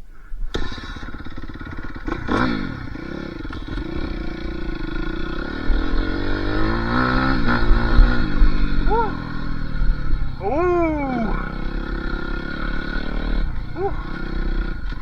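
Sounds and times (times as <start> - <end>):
dirt bike engine revving: 0.5 - 15.0.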